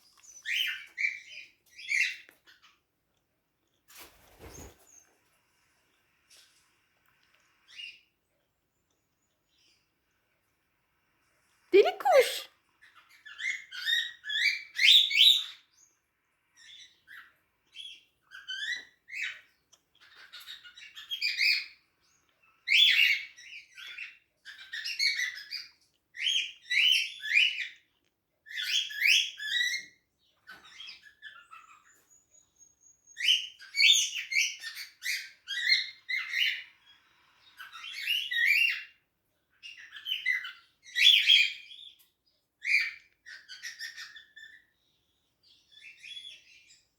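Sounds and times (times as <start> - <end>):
cockatiels chirping and warbling: 0.0 - 2.9, 11.8 - 46.9.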